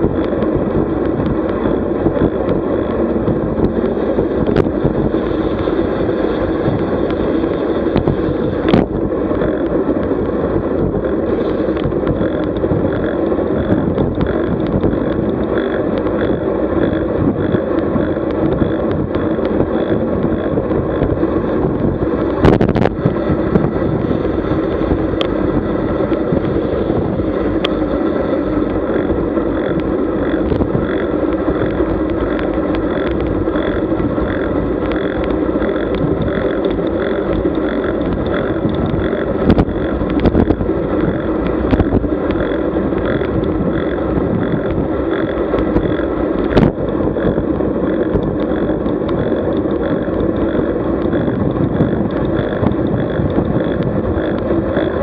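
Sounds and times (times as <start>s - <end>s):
road rumble: 0.0s - 55.0s
wind rush on microphone: 0.0s - 55.0s.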